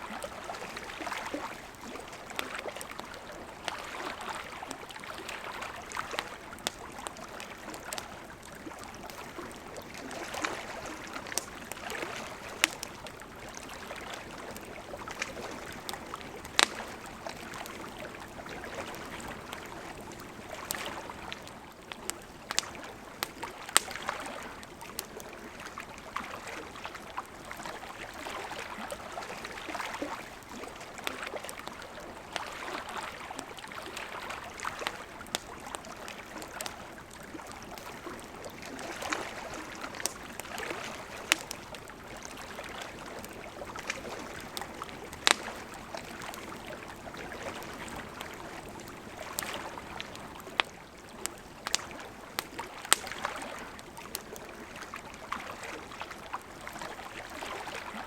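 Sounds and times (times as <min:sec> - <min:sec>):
campfire crackling and popping: 0:00.0 - 0:58.0
lake waves lapping at shore: 0:00.0 - 0:58.0.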